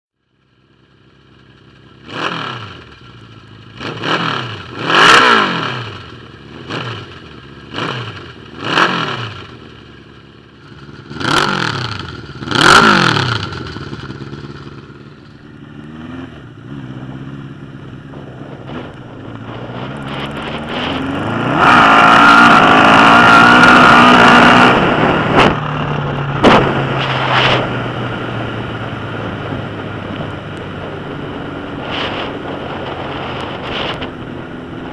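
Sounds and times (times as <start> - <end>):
motorcycle engine revving: 0.3 - 34.9.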